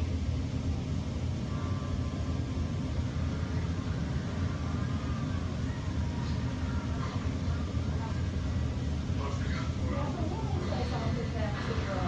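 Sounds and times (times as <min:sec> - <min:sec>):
hvac system drone and air rush: 0:00.0 - 0:12.0.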